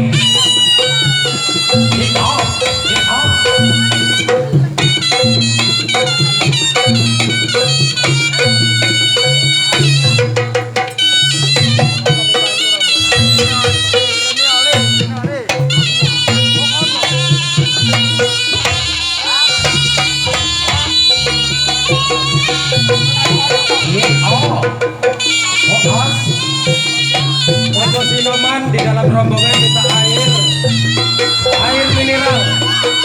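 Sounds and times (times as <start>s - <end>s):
drum strokes: 0.0s - 33.0s
shrill reedy shawm melody: 0.0s - 33.0s.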